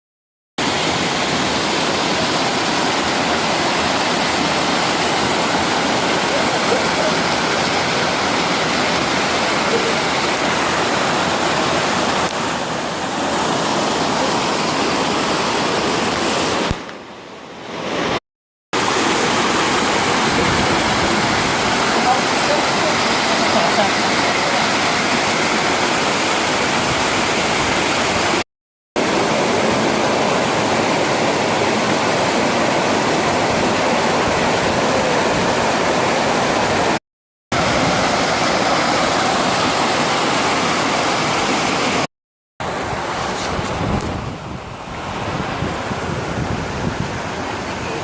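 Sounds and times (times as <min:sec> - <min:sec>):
waterfall rushing: 0:00.6 - 0:18.2, 0:18.8 - 0:28.4, 0:29.0 - 0:48.0.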